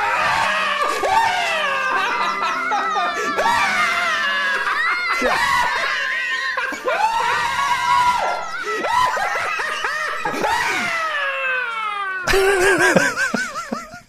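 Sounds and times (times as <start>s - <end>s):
voices shrieking and yelping: 0.0s - 12.5s.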